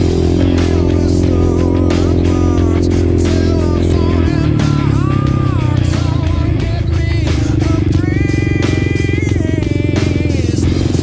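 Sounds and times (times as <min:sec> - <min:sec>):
atv engine running: 0:00.0 - 0:11.0
rock music with guitar: 0:00.0 - 0:11.0.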